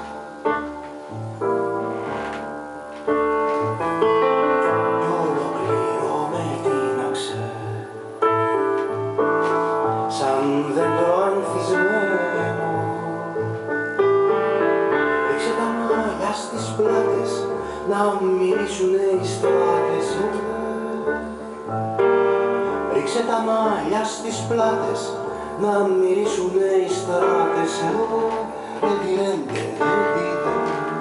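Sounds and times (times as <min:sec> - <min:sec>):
piano: 0:00.0 - 0:31.0
recorded music over loudspeakers: 0:00.0 - 0:31.0.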